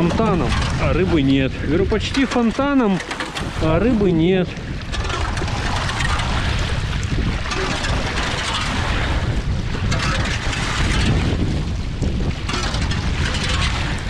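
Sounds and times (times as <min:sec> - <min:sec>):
water splashing in ice slot: 0:00.0 - 0:14.0
wind buffeting microphone: 0:00.0 - 0:14.0.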